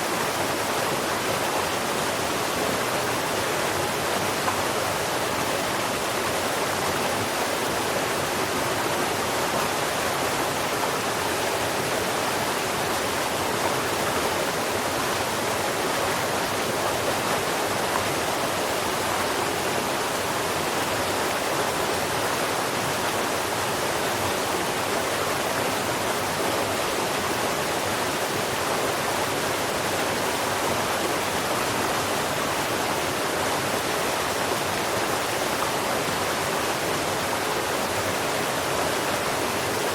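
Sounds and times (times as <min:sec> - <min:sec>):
steady rushing water: 0:00.0 - 0:39.9.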